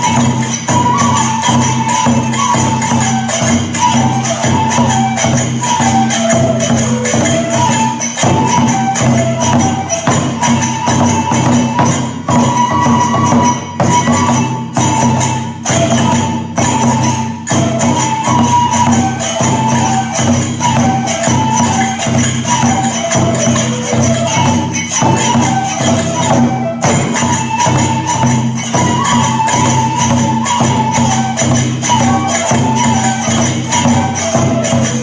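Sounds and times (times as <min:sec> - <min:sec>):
bamboo flute melody: 0:00.0 - 0:35.0
drum strokes: 0:00.0 - 0:35.0
jangling hand cymbals: 0:00.0 - 0:35.0.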